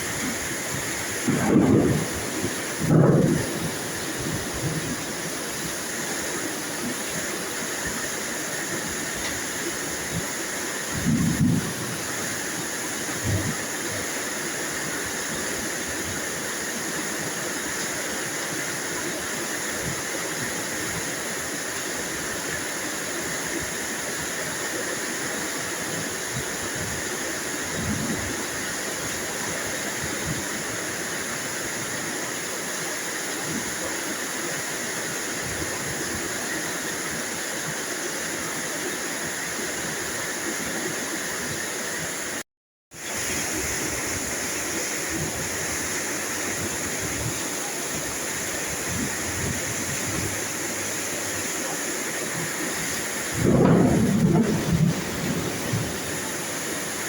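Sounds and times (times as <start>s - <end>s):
heavy rain: 0.0s - 42.4s, 43.0s - 57.0s.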